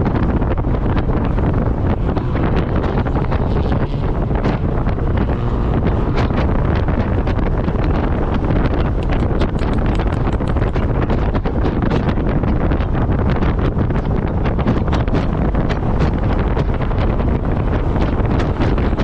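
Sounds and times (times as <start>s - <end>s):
road noise: 0.0s - 19.0s
wind buffeting microphone: 0.0s - 19.0s
car engine: 0.1s - 11.9s, 12.5s - 19.0s.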